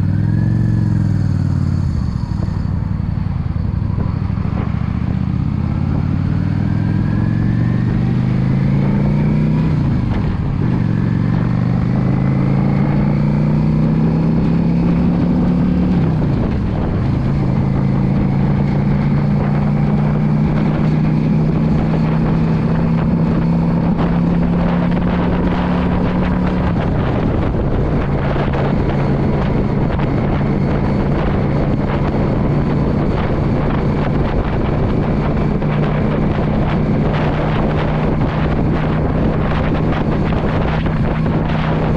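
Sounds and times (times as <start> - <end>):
motorcycle engine accelerating: 0.0 - 41.9
wind buffeting microphone: 0.0 - 41.9.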